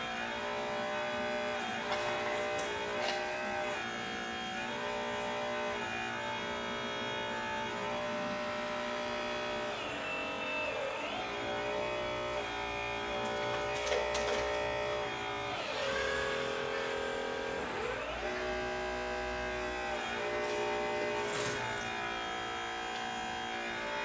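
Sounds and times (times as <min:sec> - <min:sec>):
electric pump motor whine: 0:00.0 - 0:24.0.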